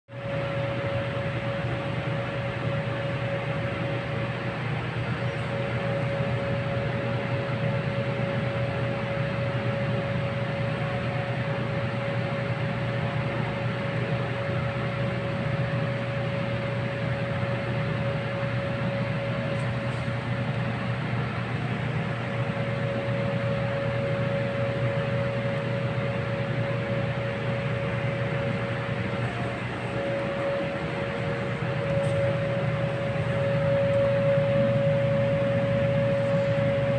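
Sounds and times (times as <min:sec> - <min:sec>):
aquarium equipment humming: 0:00.1 - 0:36.9.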